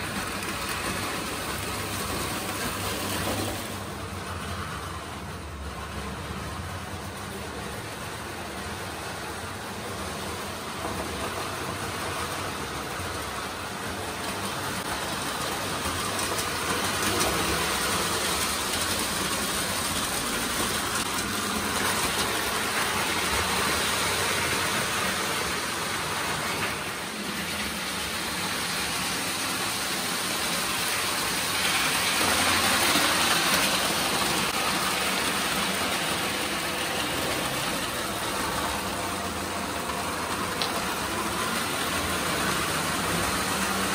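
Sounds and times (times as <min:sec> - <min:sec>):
toy train motors whirring: 0:00.0 - 0:03.6, 0:05.7 - 0:43.9.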